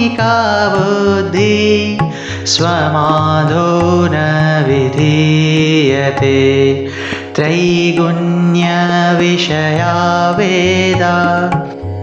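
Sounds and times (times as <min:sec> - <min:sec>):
devotional drone music: 0:00.0 - 0:12.0.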